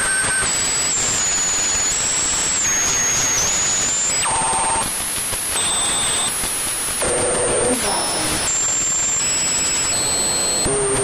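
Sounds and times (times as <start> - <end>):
crackling radio static: 0.0 - 11.0.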